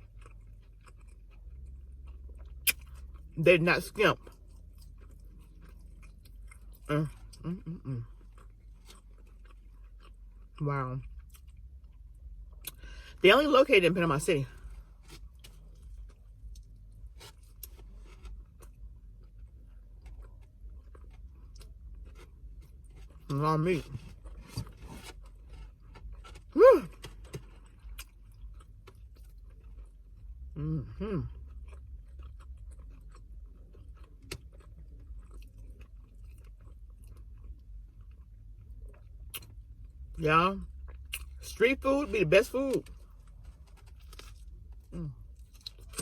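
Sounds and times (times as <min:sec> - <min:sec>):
chewing food: 0:00.0 - 0:12.9, 0:14.5 - 0:42.0, 0:42.6 - 0:46.0
steady low hum: 0:00.0 - 0:46.0.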